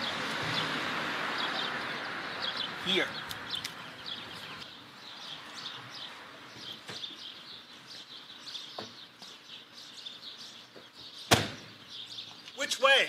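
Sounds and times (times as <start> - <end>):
outdoor background noise: 0.0 - 13.0
small songbirds chirping: 0.0 - 13.0.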